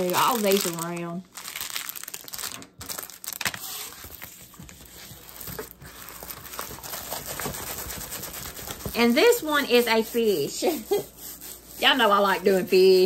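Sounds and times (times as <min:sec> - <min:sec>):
plastic film and paper crinkling: 0:00.0 - 0:11.6.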